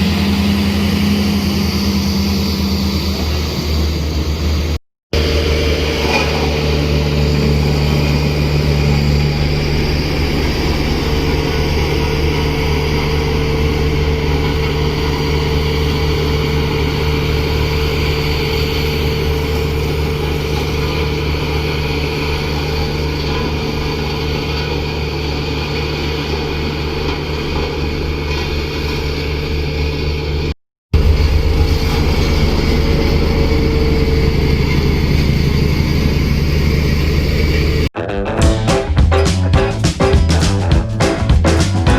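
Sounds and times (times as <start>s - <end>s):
engine-like drone: 0.0s - 41.9s.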